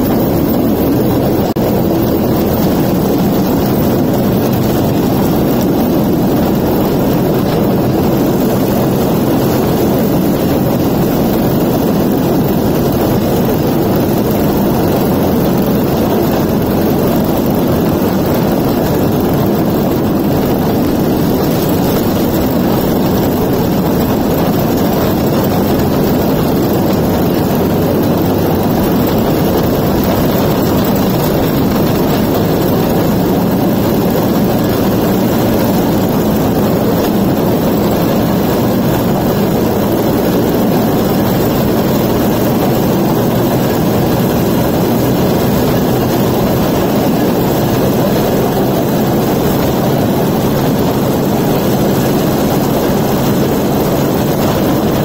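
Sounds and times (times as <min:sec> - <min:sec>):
steel wheels rumbling on rails: 0:00.0 - 0:55.0
two-stroke engine running: 0:00.0 - 0:55.0.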